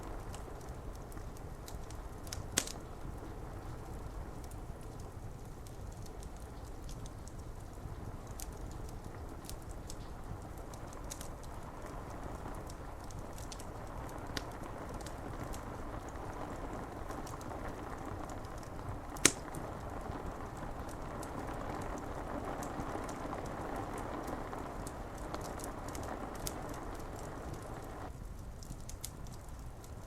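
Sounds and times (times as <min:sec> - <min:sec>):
rain pattering on window: 0:00.0 - 0:30.0
wood fire crackling: 0:00.0 - 0:30.0.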